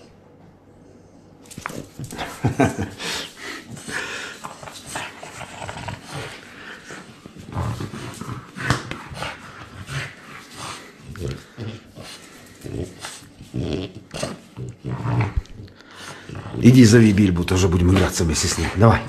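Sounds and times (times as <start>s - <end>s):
dog growling in play: 1.5s - 19.0s.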